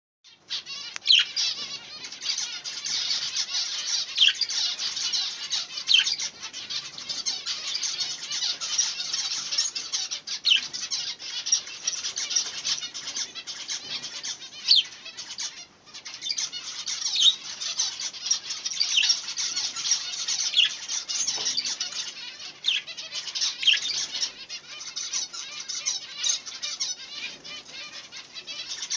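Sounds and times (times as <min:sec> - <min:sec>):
budgerigars chattering and warbling: 0:00.3 - 0:28.9
sharp budgerigar chirps: 0:00.3 - 0:28.9.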